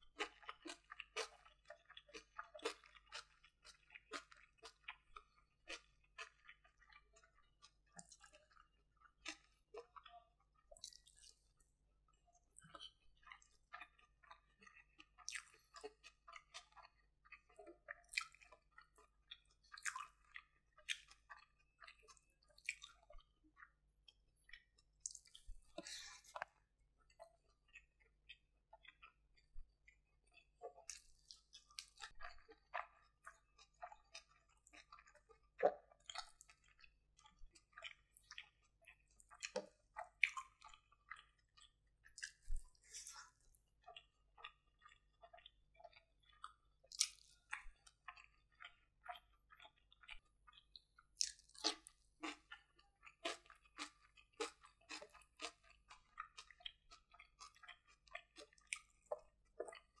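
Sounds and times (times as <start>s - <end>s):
wet chewing mouth clicks: 0.2s - 11.5s, 12.6s - 23.7s, 24.5s - 60.0s.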